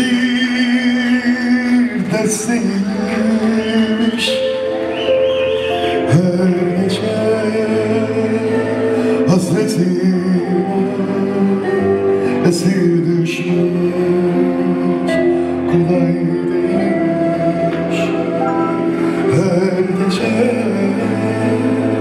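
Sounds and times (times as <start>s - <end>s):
band with keyboard and lute: 0.0s - 22.0s
man singing into a microphone: 0.0s - 22.0s.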